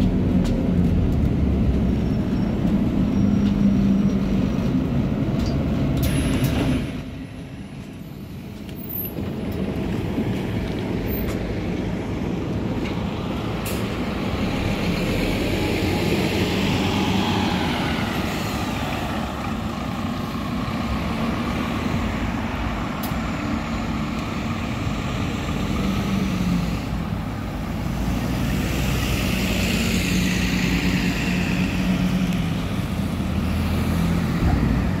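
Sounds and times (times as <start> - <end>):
diesel bus passing close: 0.0 - 35.0
diesel bus pulling away: 0.0 - 35.0.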